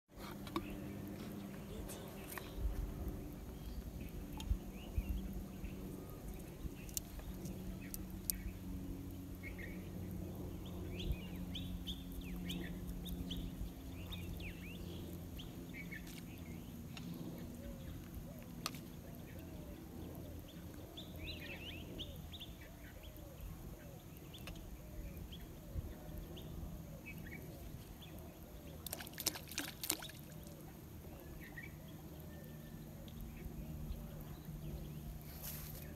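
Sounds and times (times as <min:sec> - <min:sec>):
low steady hum: 0:00.1 - 0:35.9.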